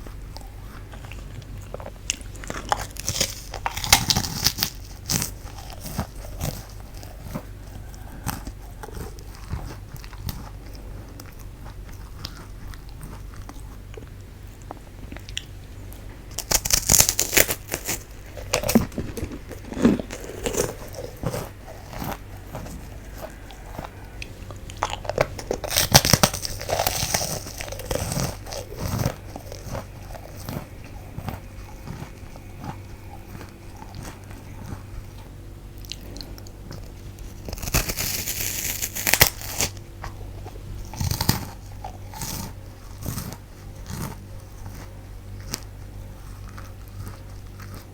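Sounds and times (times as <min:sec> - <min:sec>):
crunchy snack chewing: 0:00.0 - 0:47.9.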